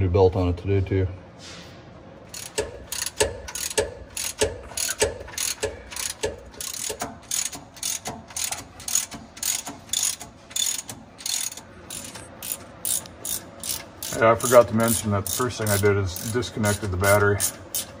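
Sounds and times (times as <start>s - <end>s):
ratchet wrench clicking: 2.3s - 18.0s.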